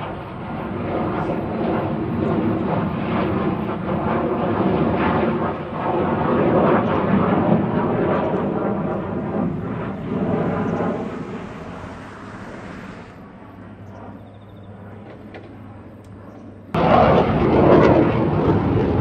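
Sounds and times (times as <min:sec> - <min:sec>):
jet engine roar flying past: 0:00.0 - 0:19.0.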